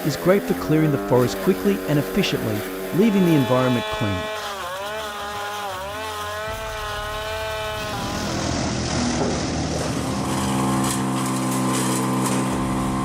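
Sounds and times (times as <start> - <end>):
rough noisy sound: 0.0 - 13.0
wood chipper engine under load: 0.0 - 13.0.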